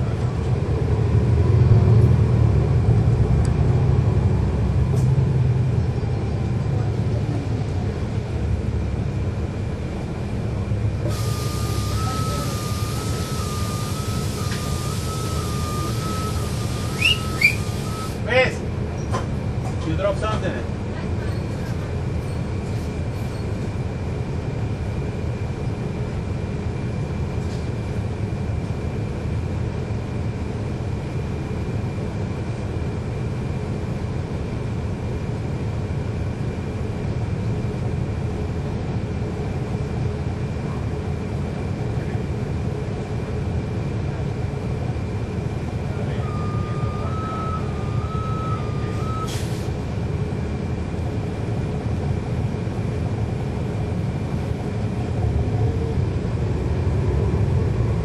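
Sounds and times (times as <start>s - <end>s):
diesel bus engine rumble: 0.0s - 58.0s.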